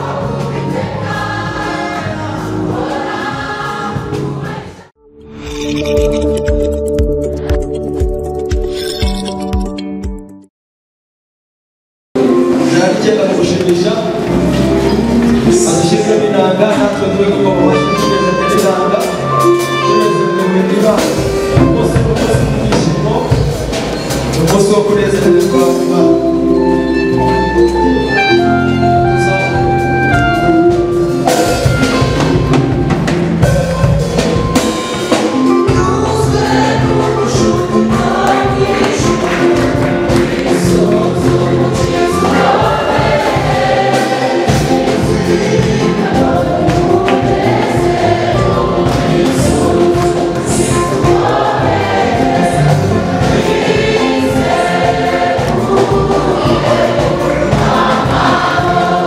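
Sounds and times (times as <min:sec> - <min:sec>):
drums: 0:00.0 - 0:04.9, 0:12.2 - 0:59.0
church choir singing gospel: 0:00.0 - 0:05.0, 0:12.2 - 0:59.0
live band playing: 0:00.0 - 0:08.7, 0:12.2 - 0:59.0.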